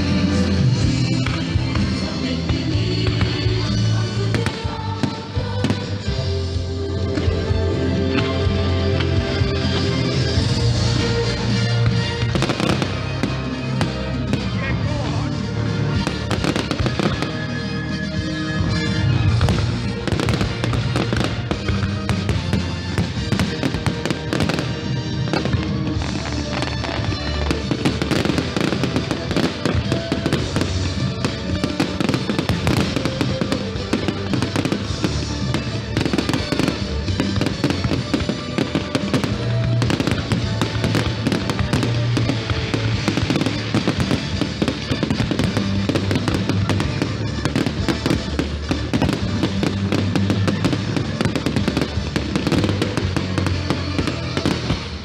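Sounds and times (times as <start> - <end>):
fireworks bangs and crackles: 0.0 - 55.0
music playing: 0.0 - 55.0.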